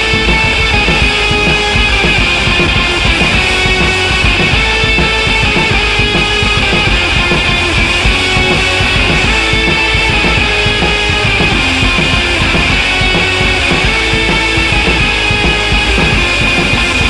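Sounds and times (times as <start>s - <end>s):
instrumental rock music: 0.0s - 17.0s.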